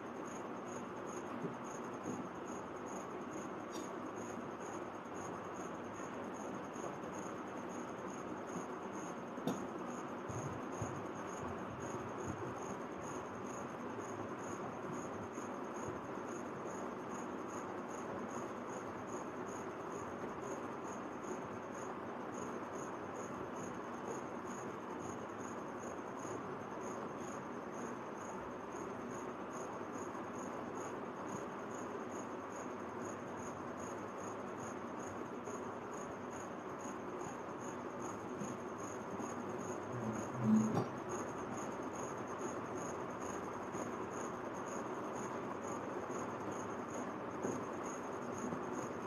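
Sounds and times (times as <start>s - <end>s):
cricket chirping: 0.0s - 49.0s
room noise hiss: 0.0s - 49.0s.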